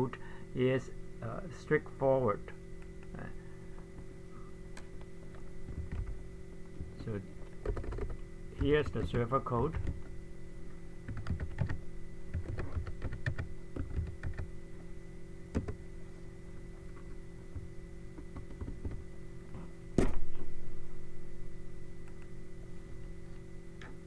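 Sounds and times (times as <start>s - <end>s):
background hum: 0.0s - 24.0s.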